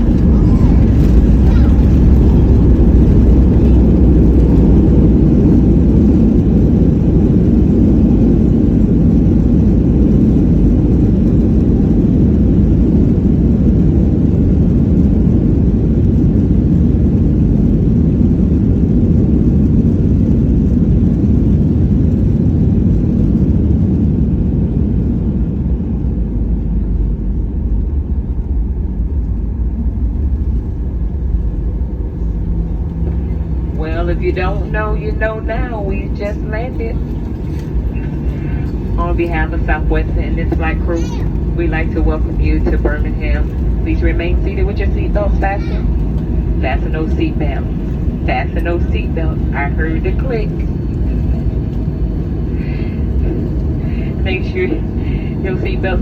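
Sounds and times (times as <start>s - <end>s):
aircraft engines rumbling: 0.0s - 56.0s.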